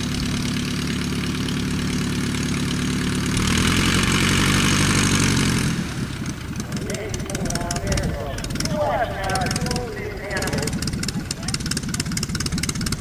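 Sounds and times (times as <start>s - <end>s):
propeller aircraft engine running: 0.0s - 13.0s.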